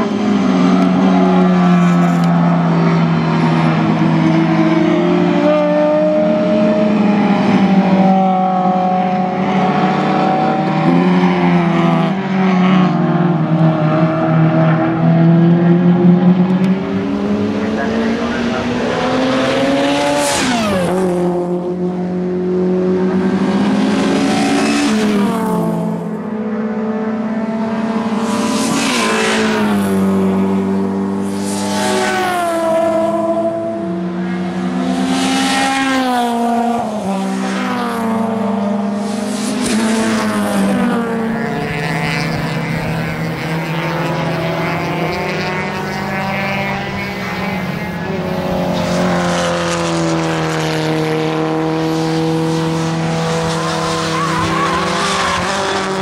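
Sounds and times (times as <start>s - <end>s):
racing car engines revving past: 0.0s - 56.0s.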